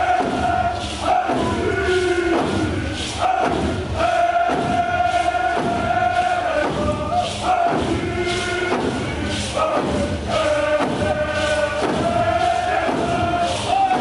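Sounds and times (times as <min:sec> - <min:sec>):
drumbeats thudding: 0:00.0 - 0:14.0
group of voices chanting: 0:00.0 - 0:14.0.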